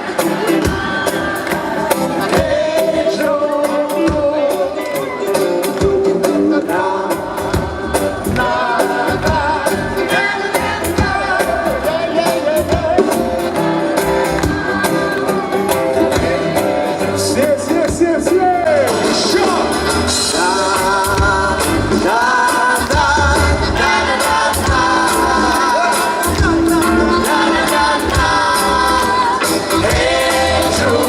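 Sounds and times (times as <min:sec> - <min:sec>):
person singing: 0:00.0 - 0:31.0
pop-rock band playing: 0:00.0 - 0:31.0
steady drum beat: 0:00.0 - 0:31.0.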